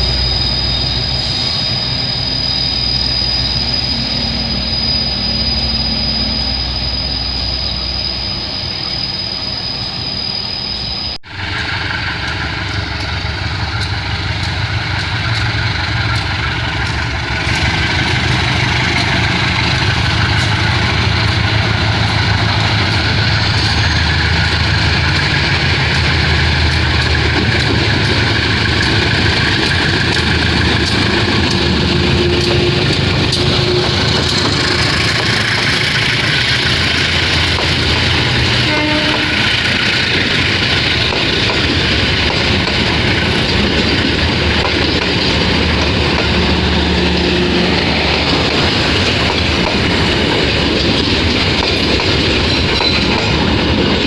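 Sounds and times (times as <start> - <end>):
locomotive engine drone: 0.0 - 54.0
train wheels on rails: 0.0 - 54.0.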